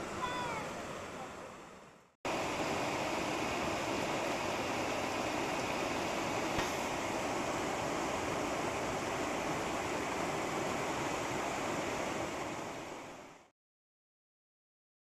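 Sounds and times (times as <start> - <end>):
river water rushing over rocks: 0.0 - 13.5.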